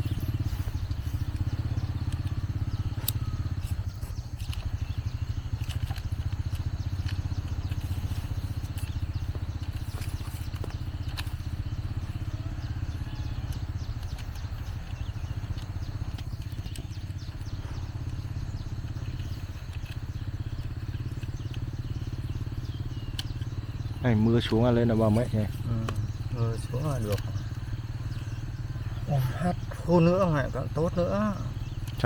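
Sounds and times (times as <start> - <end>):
faint clicks: 0.0 - 30.6, 31.3 - 32.0
brush cutter engine running: 0.0 - 32.0.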